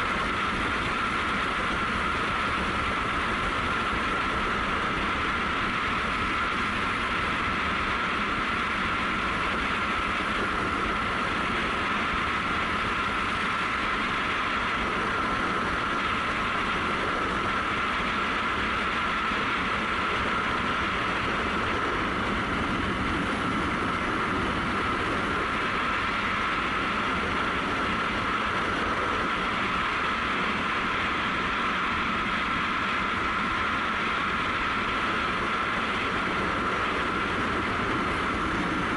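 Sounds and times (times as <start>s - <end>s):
constant high hum: 0.0s - 38.9s
wind and road noise: 0.0s - 38.9s.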